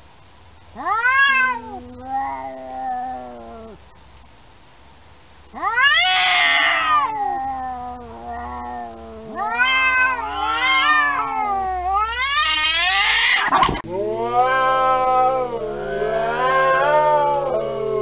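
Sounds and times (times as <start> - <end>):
cats yowling: 0.8 - 3.8, 5.5 - 18.0.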